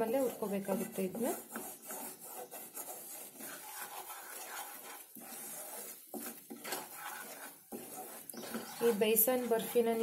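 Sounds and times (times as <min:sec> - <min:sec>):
wooden spatula scraping a pan: 0:00.0 - 0:10.0.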